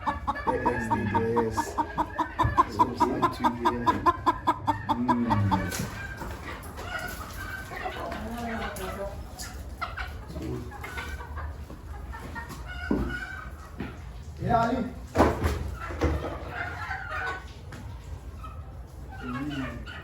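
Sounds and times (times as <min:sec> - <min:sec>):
chicken calls: 0:00.0 - 0:14.3, 0:15.6 - 0:20.0
chickens clucking: 0:00.0 - 0:20.0.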